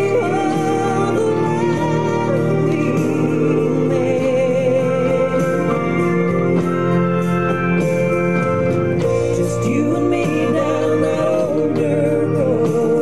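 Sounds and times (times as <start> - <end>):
country band playing slow song: 0.0 - 13.0.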